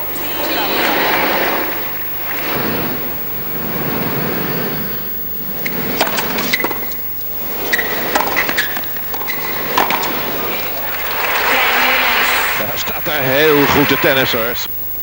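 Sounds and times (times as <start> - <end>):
sneaker squeaks on court: 0.0 - 12.7
crowd murmur: 0.0 - 14.7.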